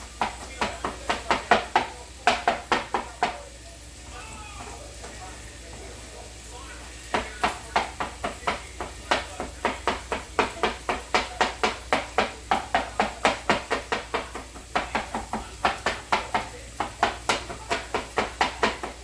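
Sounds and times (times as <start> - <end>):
knife chopping on cutting board: 0.0 - 3.5, 7.1 - 19.0.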